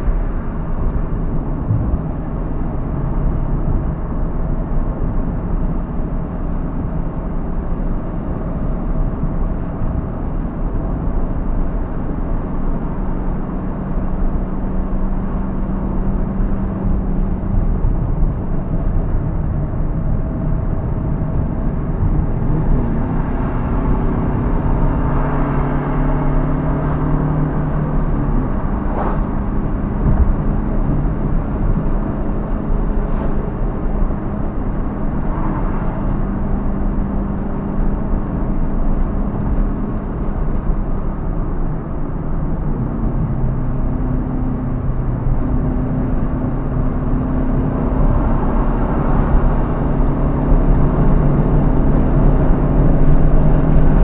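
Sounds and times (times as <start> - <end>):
car engine running: 0.0 - 54.0
road and tyre noise: 0.0 - 54.0.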